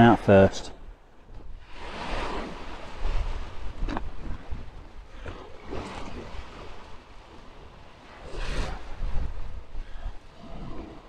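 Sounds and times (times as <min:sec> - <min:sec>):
wind buffeting microphone: 0:00.7 - 0:11.0
waves washing on shingle: 0:01.6 - 0:11.0.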